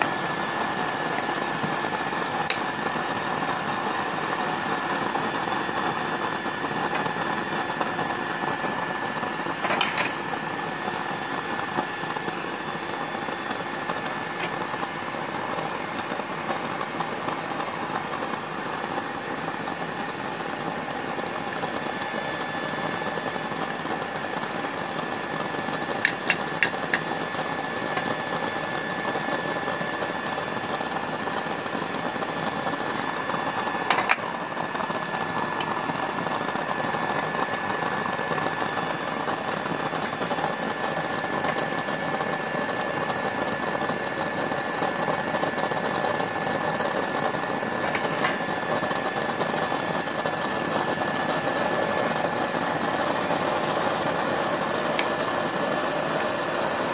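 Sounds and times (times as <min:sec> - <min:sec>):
oil stove burner rushing: 0:00.0 - 0:56.9.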